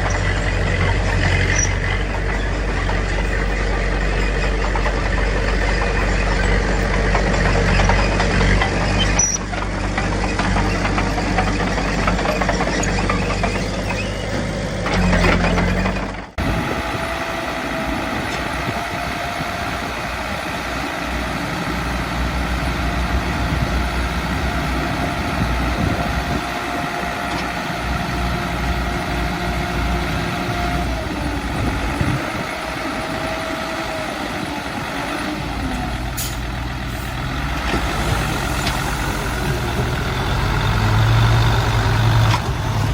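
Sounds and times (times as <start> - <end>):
engine with steady whine: 0.0 - 42.9
heavy diesel engines running: 0.0 - 42.9.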